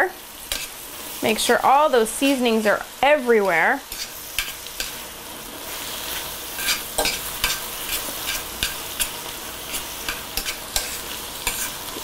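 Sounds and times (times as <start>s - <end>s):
spinach sizzling in skillet: 0.0s - 12.0s.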